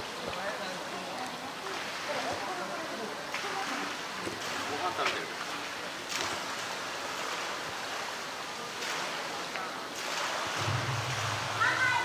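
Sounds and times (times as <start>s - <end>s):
water sloshing in a pool: 0.0s - 12.0s.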